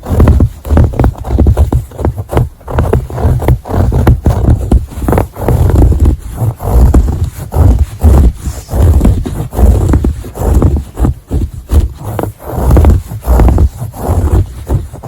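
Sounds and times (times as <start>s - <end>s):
scratching on fabric: 0.0s - 15.0s.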